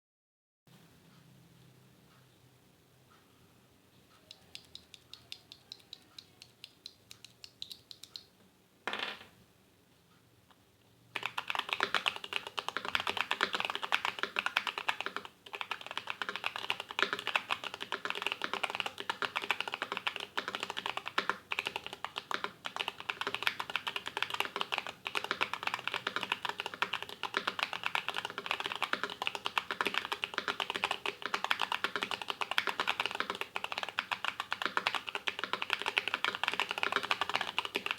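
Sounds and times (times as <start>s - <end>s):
mechanical keyboard typing: 4.3s - 8.2s, 11.2s - 37.9s.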